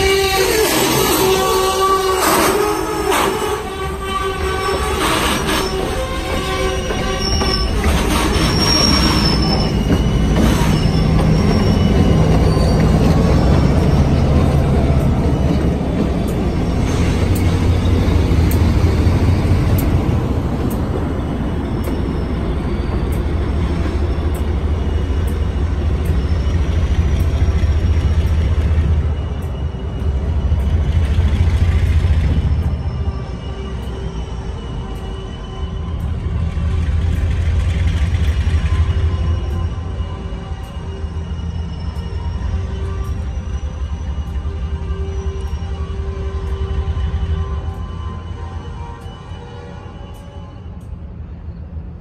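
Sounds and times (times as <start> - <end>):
locomotive engine drone: 0.0 - 52.0
wheels squealing on rails: 0.0 - 52.0.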